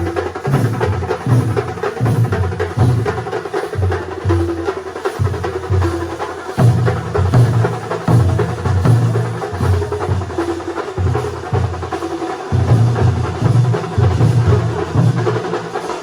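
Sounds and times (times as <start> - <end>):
heavy low drum beats: 0.0 - 16.0.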